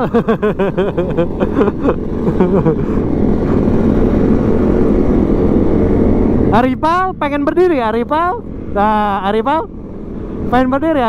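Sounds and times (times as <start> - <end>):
motorcycle engine running: 0.0 - 11.0
riding wind noise: 0.0 - 11.0.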